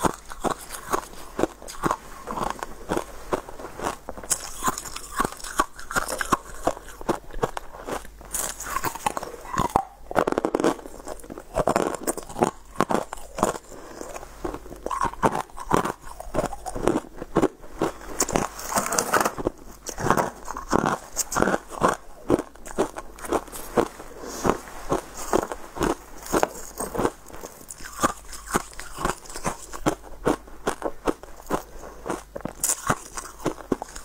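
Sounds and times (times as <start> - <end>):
chewing and crunching ice: 0.0 - 34.0.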